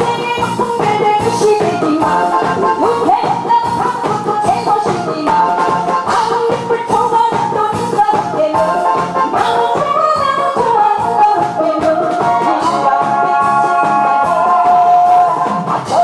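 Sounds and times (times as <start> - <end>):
backing track with steady beat: 0.0 - 16.0
woman singing into microphone: 0.0 - 16.0.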